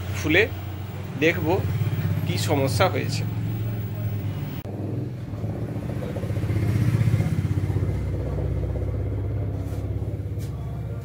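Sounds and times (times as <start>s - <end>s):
engine running with pulsing note: 0.0s - 11.0s.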